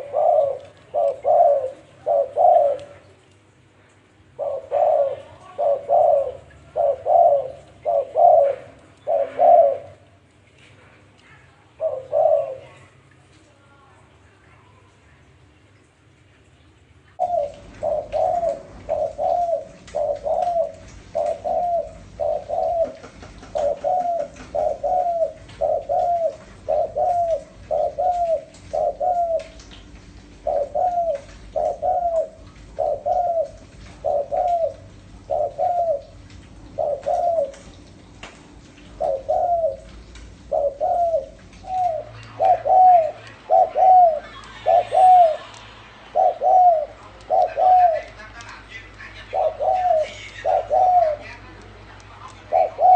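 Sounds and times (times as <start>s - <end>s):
dove cooing: 0.0s - 3.1s, 4.3s - 10.2s, 11.3s - 13.0s, 17.2s - 37.9s, 38.8s - 48.4s, 49.2s - 51.5s, 52.2s - 52.9s.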